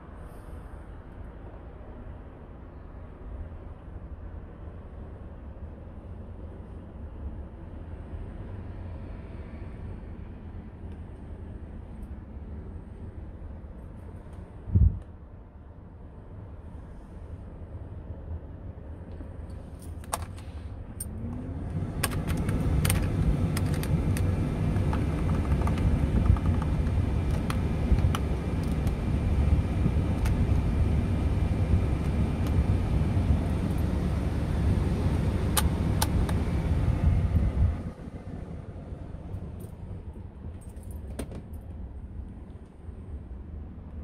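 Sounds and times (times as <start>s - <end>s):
truck cab low rumble: 0.0s - 44.0s.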